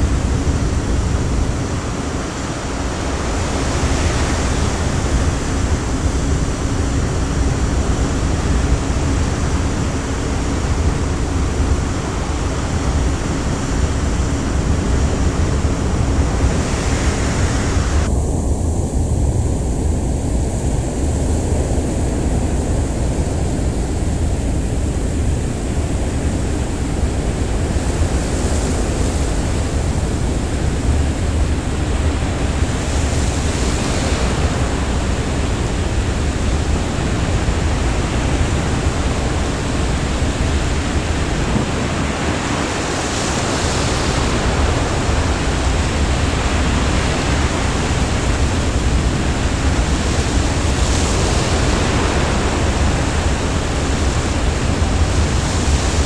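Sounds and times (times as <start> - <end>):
wind and sea rushing: 0.0 - 56.0.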